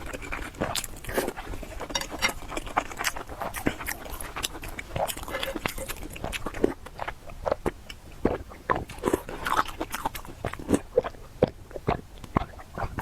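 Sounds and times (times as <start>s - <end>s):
chewing with wet mouth smacks: 0.0s - 13.0s.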